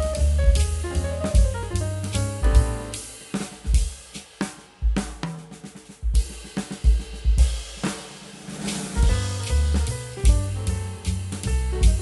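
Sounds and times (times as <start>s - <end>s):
background music with drum beat: 0.0s - 12.0s.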